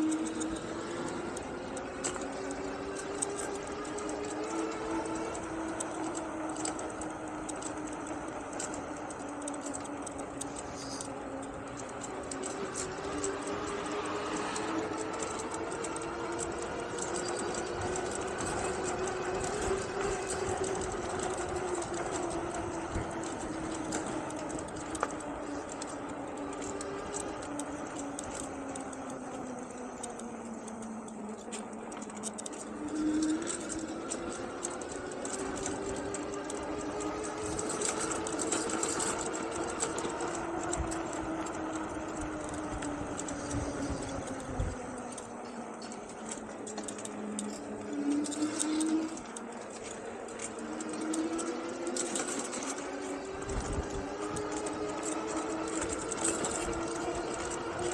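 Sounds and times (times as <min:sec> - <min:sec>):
electric bike motor whining: 0:00.0 - 0:57.9.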